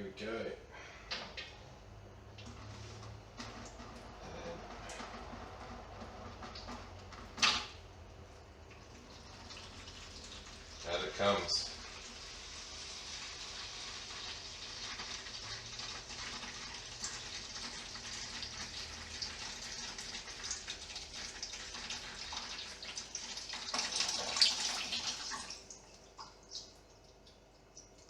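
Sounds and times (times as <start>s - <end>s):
water pouring into a bucket: 2.4s - 7.7s, 8.6s - 27.4s
water dripping: 3.4s - 28.0s.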